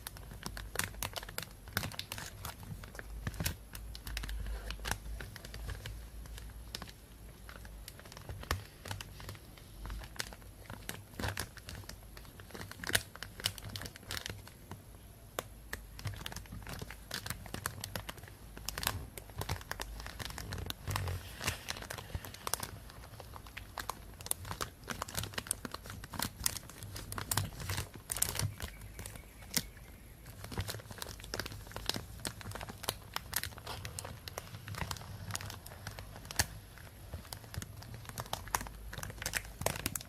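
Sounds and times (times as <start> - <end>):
plastic bag crinkling: 0.0 - 15.0, 15.8 - 40.0.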